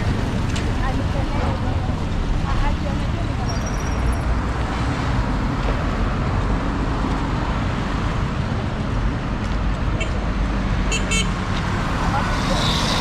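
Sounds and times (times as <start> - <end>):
road vehicles passing: 0.0 - 13.0.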